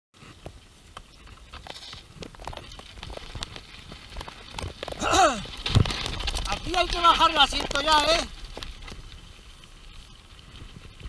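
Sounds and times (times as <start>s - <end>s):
bike rolling over dirt trail: 0.2s - 11.0s.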